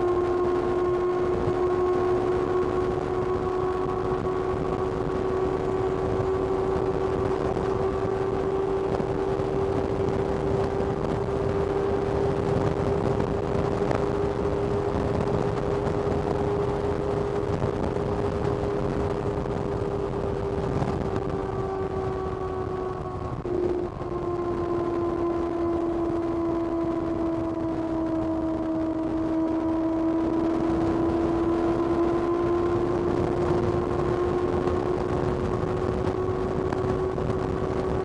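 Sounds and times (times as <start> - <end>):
motorcycle engine running: 0.0 - 38.0
steady rushing noise: 0.0 - 38.0.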